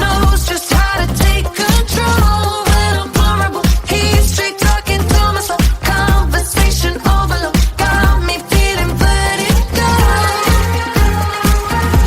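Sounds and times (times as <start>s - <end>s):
dance-pop music: 0.0s - 12.0s.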